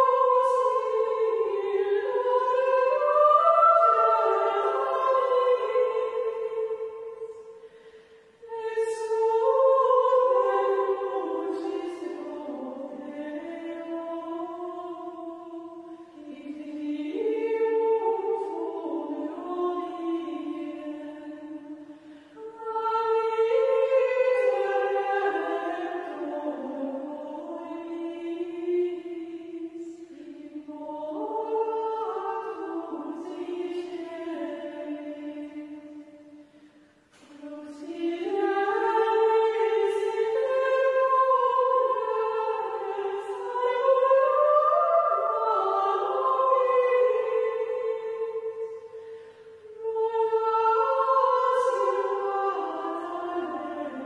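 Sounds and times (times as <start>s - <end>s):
women singing chant in unison: 0.0s - 54.0s.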